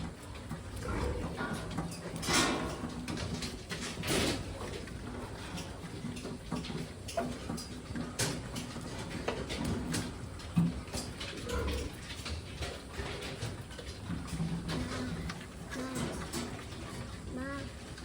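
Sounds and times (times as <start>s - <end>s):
pigs grunting softly: 0.0s - 18.0s.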